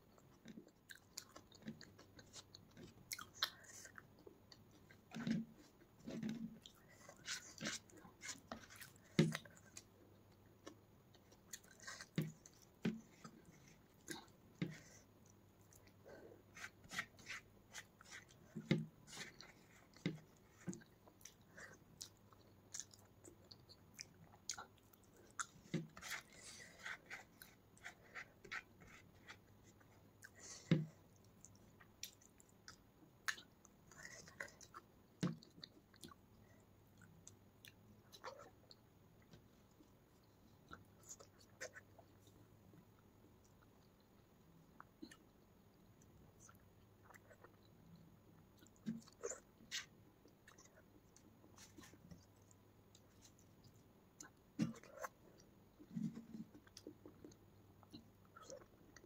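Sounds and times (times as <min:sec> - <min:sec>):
person chewing soft food: 0:00.0 - 0:59.0.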